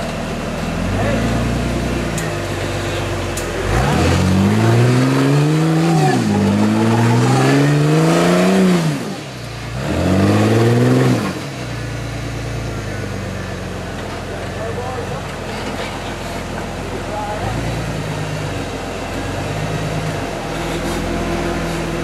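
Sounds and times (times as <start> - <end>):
engine revving under load: 0.0 - 22.0.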